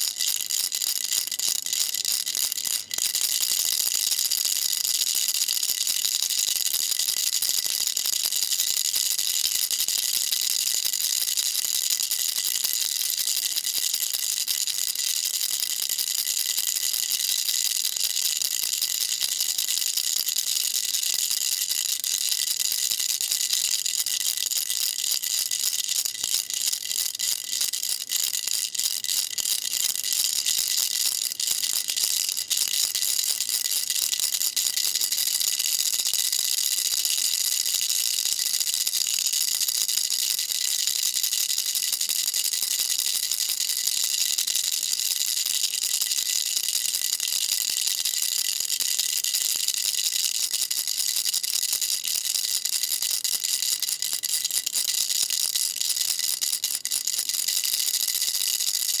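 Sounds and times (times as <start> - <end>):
baby rattle shaking: 0.0 - 8.3, 15.6 - 58.6.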